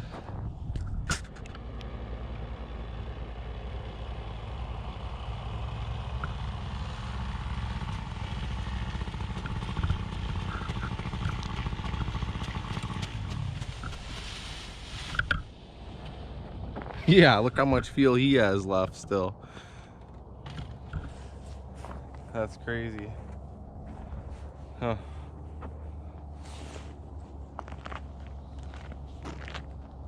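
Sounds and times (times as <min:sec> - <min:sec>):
small engine running steadily: 0:00.0 - 0:30.0.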